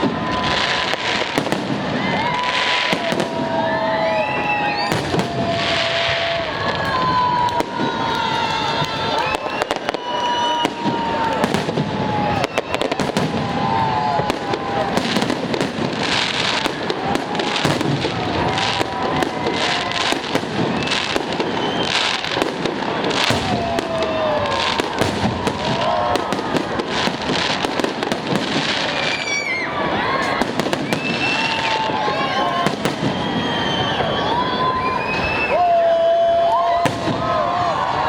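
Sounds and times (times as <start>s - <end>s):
fireworks bangs and crackling: 0.0s - 38.0s
whistling fireworks: 0.0s - 38.0s.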